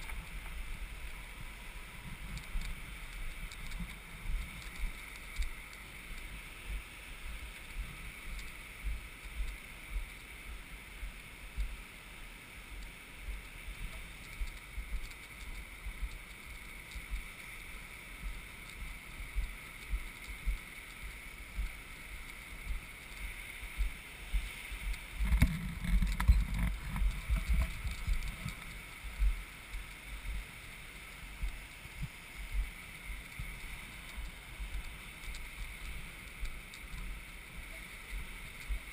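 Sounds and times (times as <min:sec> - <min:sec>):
wind buffeting microphone: 0:00.0 - 0:11.8, 0:12.8 - 0:38.9.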